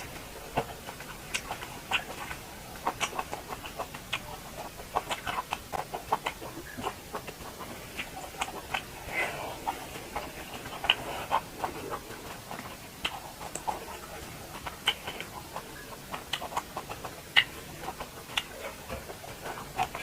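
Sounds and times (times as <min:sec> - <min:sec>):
close chewing and mouth smacks: 0:00.0 - 0:20.0.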